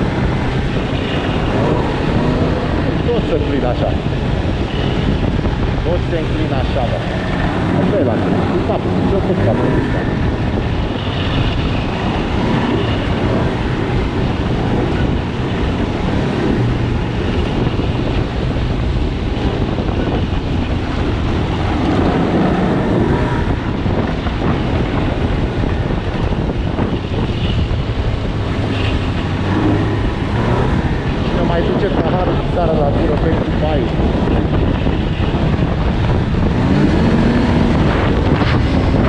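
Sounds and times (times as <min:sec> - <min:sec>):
snowmobile engine running: 0:00.0 - 0:39.0
wind on microphone: 0:00.0 - 0:39.0.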